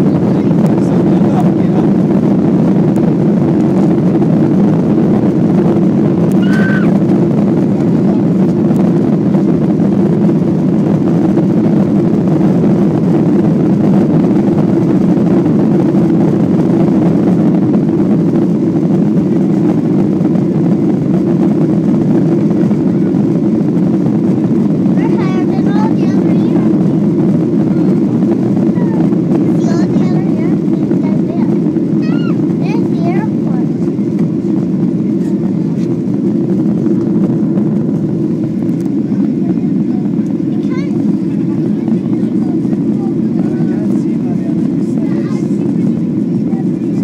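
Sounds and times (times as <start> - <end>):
airplane cabin engine noise: 0.0 - 47.0.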